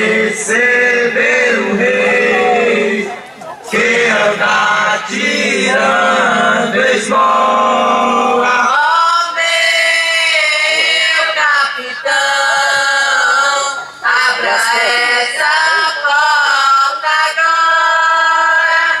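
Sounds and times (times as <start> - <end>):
male and choral voices singing: 0.0 - 19.0.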